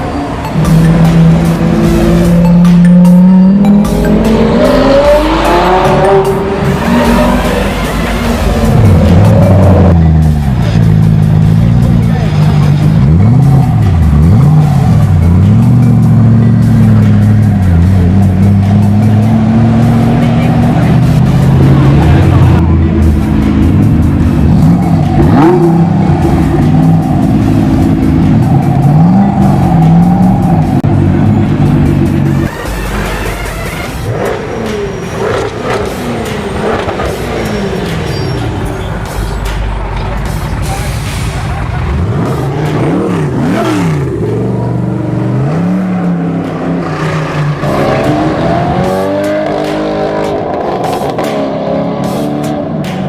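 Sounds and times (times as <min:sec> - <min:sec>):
music with steady beat: 0:00.0 - 0:38.1, 0:47.5 - 0:53.0
car engine revving: 0:00.0 - 0:53.0
car accelerating away: 0:00.1 - 0:38.2, 0:41.4 - 0:53.0.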